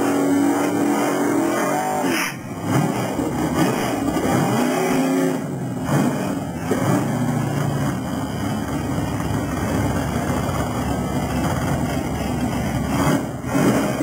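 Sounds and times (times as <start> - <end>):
race car engines idling: 0.0 - 14.0.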